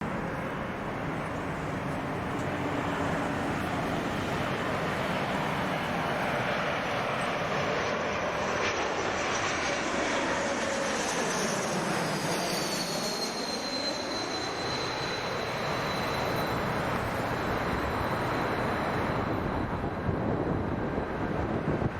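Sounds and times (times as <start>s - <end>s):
jet engines whining: 0.0s - 21.9s.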